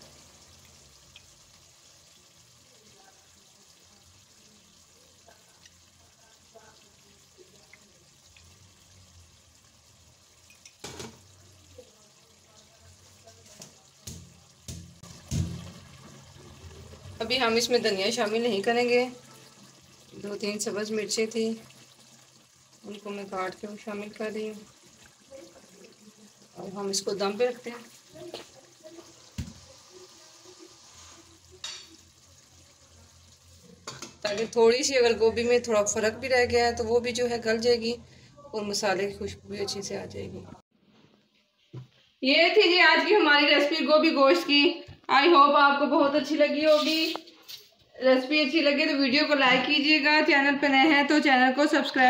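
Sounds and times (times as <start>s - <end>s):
curry sizzling in pot: 0.0s - 40.7s, 46.0s - 52.0s.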